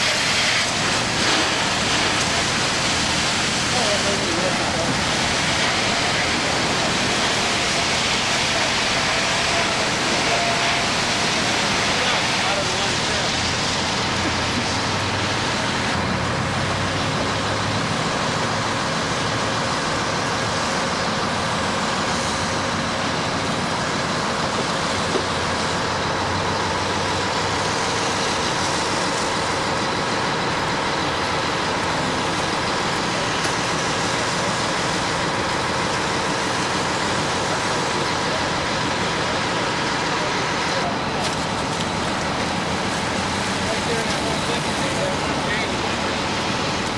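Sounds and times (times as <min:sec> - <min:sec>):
constant rushing hiss: 0:00.0 - 0:46.9
fire truck engine running: 0:00.0 - 0:46.9.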